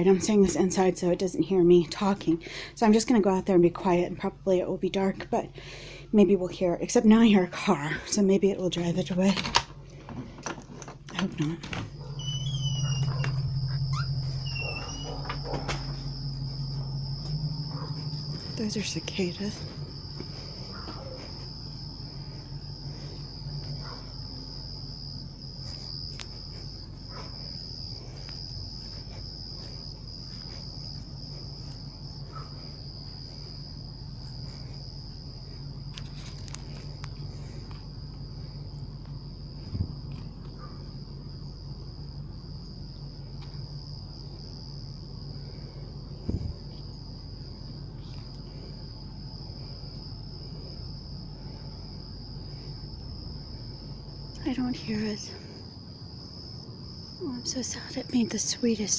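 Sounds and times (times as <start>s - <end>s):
cicadas droning: 0.0s - 58.9s
low steady hum: 0.0s - 58.9s.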